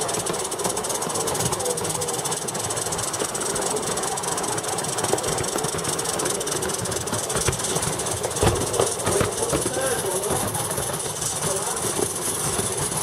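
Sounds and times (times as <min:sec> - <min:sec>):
rapid fine ticking: 0:00.0 - 0:13.0
steam hissing: 0:00.0 - 0:13.0.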